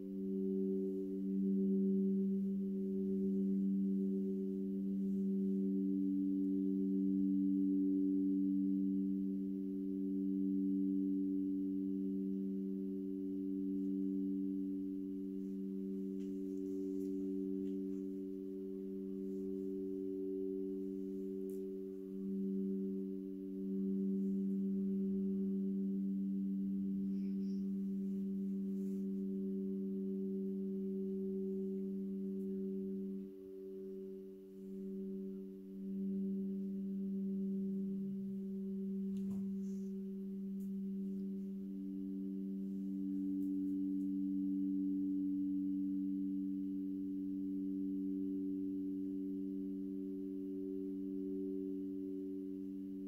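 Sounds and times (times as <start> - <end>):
crystal singing bowls ringing: 0.0 - 53.0.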